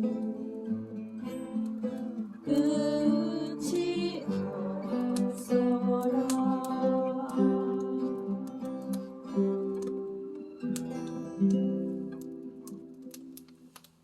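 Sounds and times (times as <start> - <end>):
acoustic guitar chords: 0.0 - 13.8.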